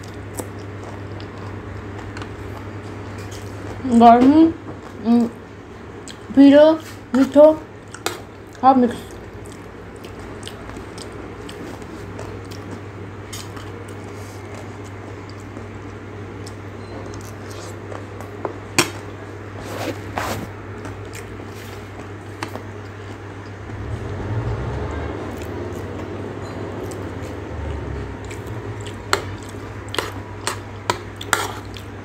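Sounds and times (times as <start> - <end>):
person chewing food: 0.0 - 3.8, 7.8 - 23.7, 25.3 - 26.2, 26.8 - 32.0.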